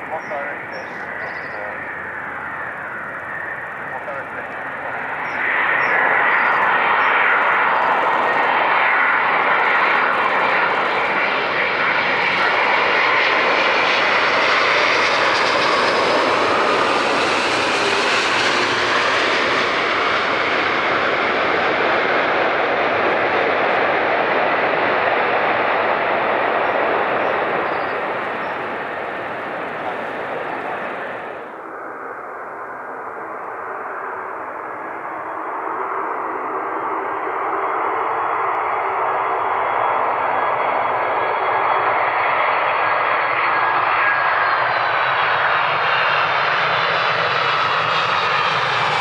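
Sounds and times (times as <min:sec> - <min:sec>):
jet engine roar: 0:00.0 - 0:49.0.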